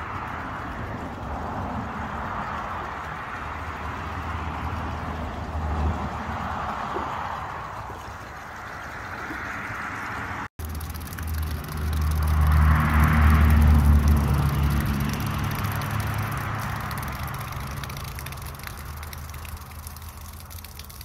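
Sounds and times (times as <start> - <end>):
low pump rumble: 0.0 - 21.0
water spraying from pipe: 0.0 - 21.0.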